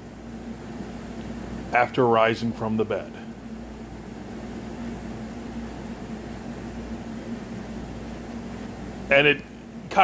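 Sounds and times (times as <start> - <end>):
room hum and hiss: 0.0 - 10.0.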